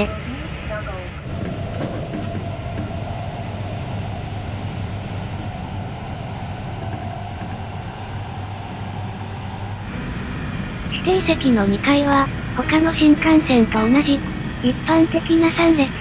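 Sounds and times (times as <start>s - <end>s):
train interior hum and rumble: 0.0s - 16.0s
faint steady whine: 2.2s - 16.0s.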